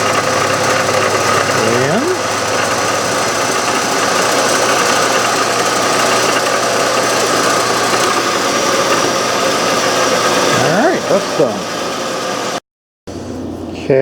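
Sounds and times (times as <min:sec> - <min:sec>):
metal lathe droning: 0:00.0 - 0:12.6.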